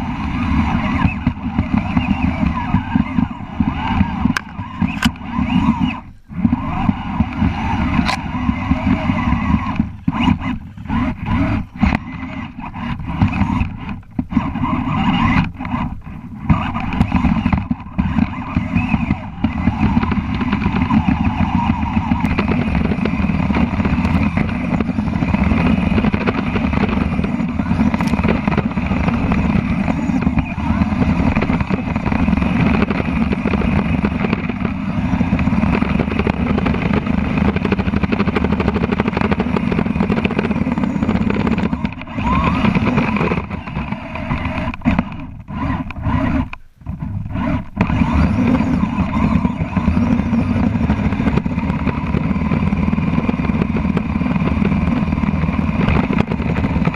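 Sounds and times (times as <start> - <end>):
toy snow cat clattering whir: 0.0 - 56.9.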